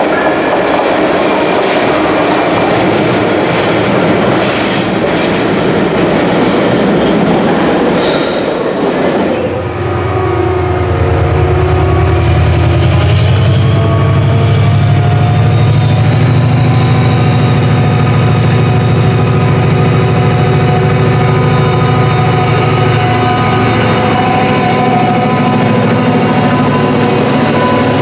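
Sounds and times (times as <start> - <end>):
diesel locomotive engine drone: 0.0 - 28.0
train coaches rolling: 0.0 - 28.0.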